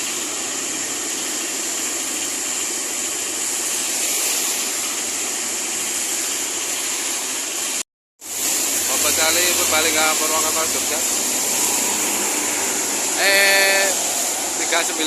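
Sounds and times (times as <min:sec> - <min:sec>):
rain hiss: 0:00.0 - 0:15.0
traffic on a wet road: 0:00.0 - 0:15.0.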